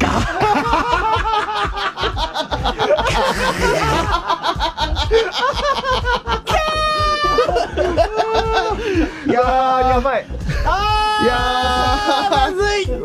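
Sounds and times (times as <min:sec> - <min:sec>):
people laughing hard: 0:00.0 - 0:13.0.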